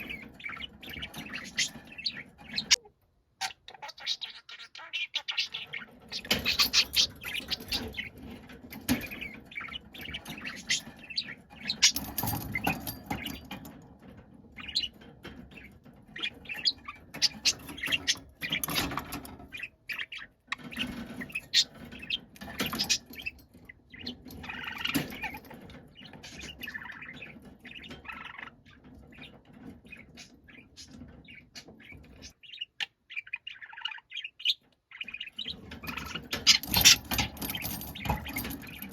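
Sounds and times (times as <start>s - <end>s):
budgerigar chattering and chirping: 0.0s - 13.6s, 14.6s - 38.9s.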